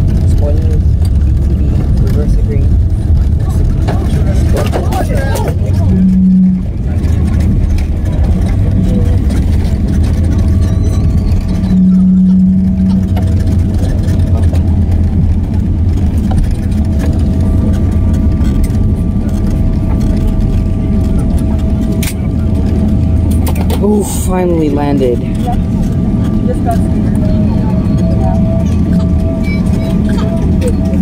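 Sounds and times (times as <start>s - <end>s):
jet engines roaring: 0.0s - 31.0s
low rumble: 0.0s - 31.0s
steady whine: 0.0s - 31.0s.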